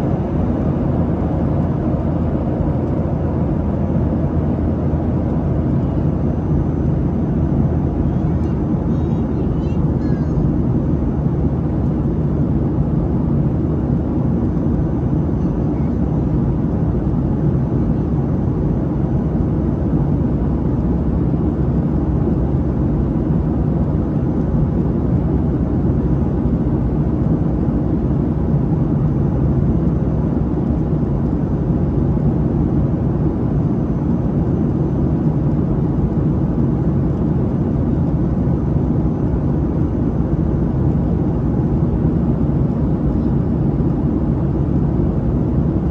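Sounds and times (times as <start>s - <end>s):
airplane cabin roar in flight: 0.0s - 45.9s.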